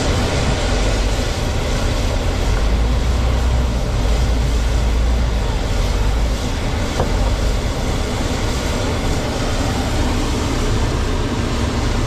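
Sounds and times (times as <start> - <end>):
cargo truck moving off: 0.0 - 12.0
hovercraft engine noise: 0.0 - 12.0.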